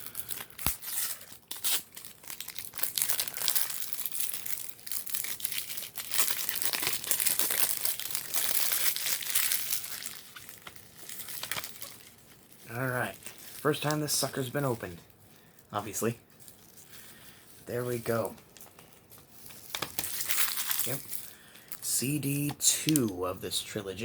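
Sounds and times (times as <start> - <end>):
plastic wrap crinkling: 0.0 - 22.2.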